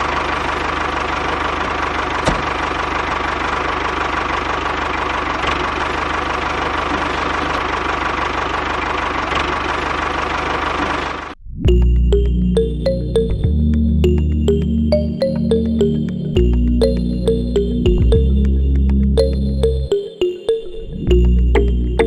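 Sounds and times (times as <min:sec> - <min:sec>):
diesel engine running: 0:00.0 - 0:11.4, 0:12.1 - 0:19.9.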